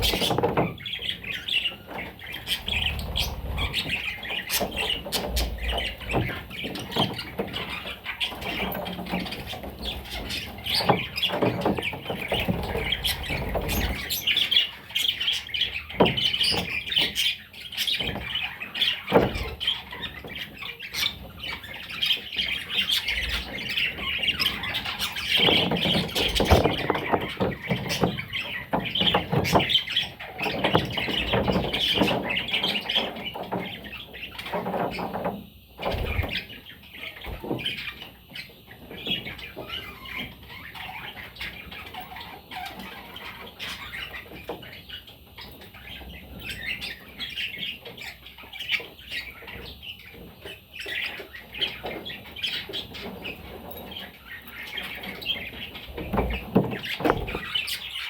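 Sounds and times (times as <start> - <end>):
budgerigars chattering and squawking: 0.0 - 58.0.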